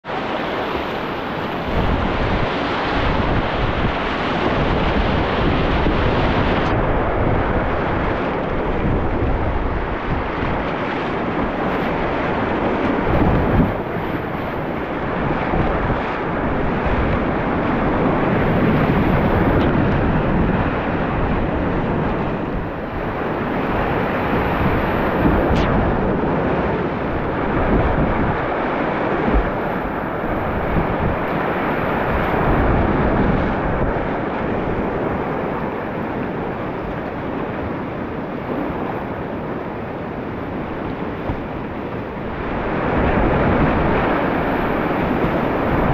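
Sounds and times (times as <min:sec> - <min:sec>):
wind buffeting microphone: 0:00.0 - 0:45.9
whitewater rapids rushing: 0:00.1 - 0:45.9.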